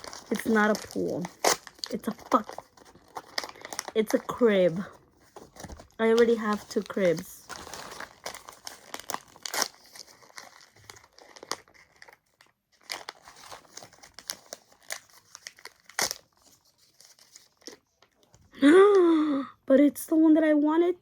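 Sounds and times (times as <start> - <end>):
plastic packaging crinkling: 0.0 - 18.6.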